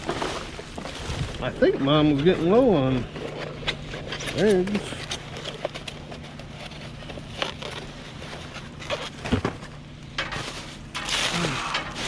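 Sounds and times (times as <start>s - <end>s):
plastic rustling: 0.0s - 12.0s.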